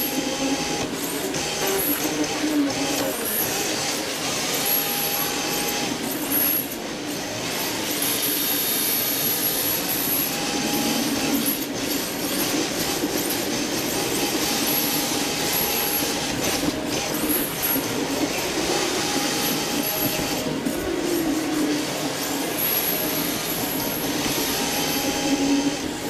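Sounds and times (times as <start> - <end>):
electric motor and gear whine: 0.0 - 26.0.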